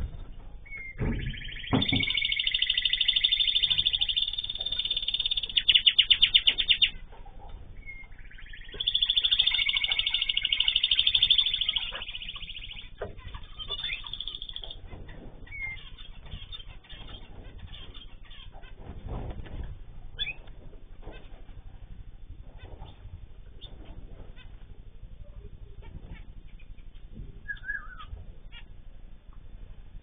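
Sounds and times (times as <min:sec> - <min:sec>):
canary singing rolling trills: 0:00.0 - 0:30.0.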